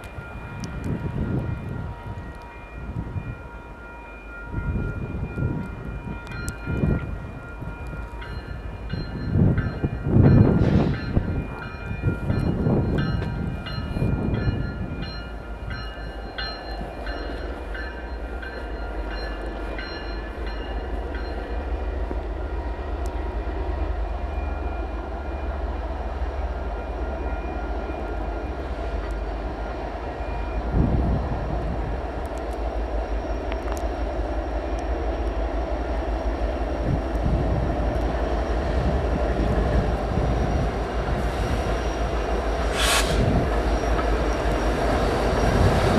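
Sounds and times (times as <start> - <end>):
diesel locomotive engine rumble: 0.0 - 45.9.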